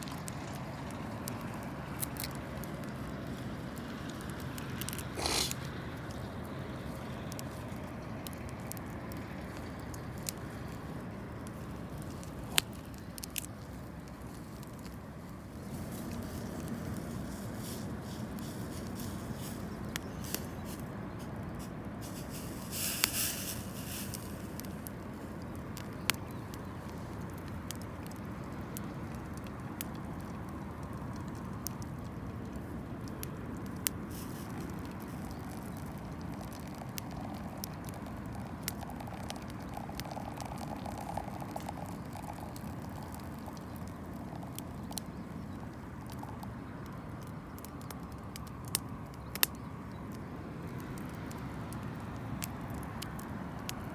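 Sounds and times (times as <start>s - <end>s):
campfire crackling: 0.0s - 53.9s
fire hissing: 0.1s - 45.0s.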